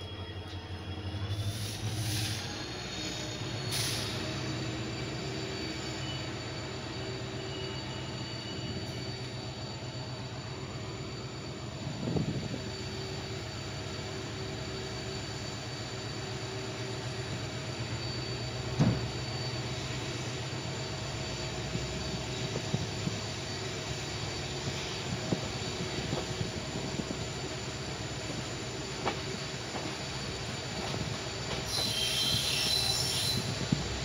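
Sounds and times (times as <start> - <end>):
train rumbling on track: 0.0 - 34.0.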